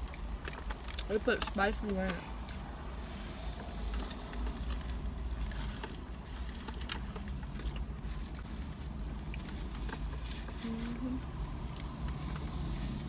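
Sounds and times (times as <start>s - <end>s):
people chewing food: 0.0s - 13.0s
small clicks and crackles: 0.0s - 13.0s.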